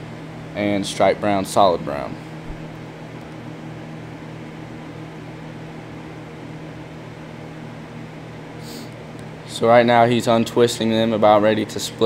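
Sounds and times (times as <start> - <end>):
low room drone: 0.0 - 12.0.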